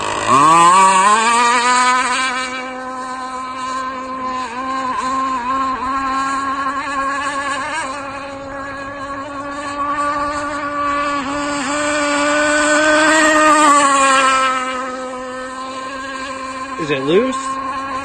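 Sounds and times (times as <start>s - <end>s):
high-pitched boat engine drone: 0.0s - 18.0s.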